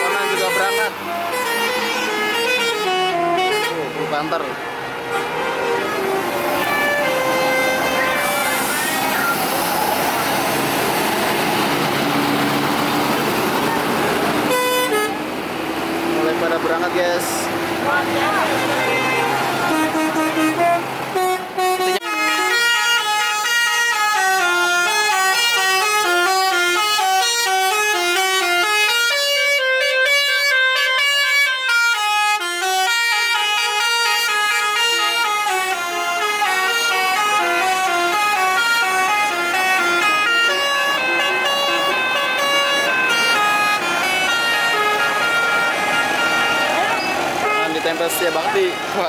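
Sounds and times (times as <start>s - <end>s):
multi-trumpet air horn melody: 0.0s - 4.0s, 5.0s - 9.8s, 14.4s - 15.2s, 18.0s - 48.2s
bus diesel engine: 0.0s - 49.0s.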